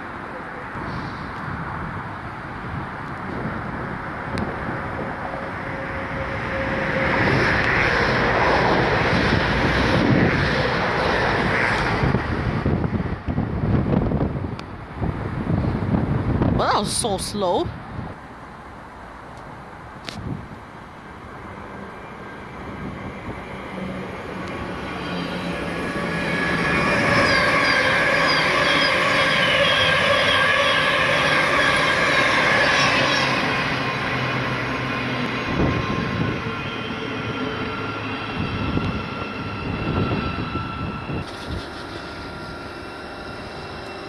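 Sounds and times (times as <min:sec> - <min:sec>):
electric train passing: 0:00.0 - 0:44.0.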